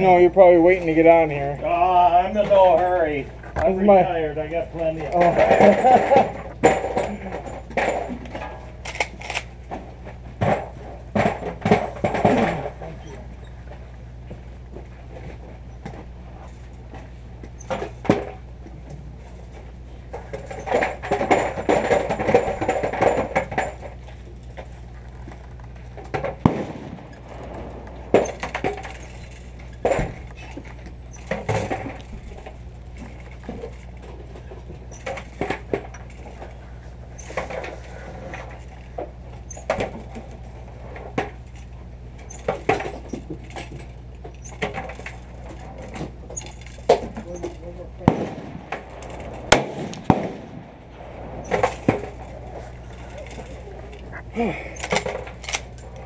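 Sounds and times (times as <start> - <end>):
handling clicks and clinks: 0.0 - 50.3, 51.0 - 56.0
steady low hum: 0.0 - 56.0.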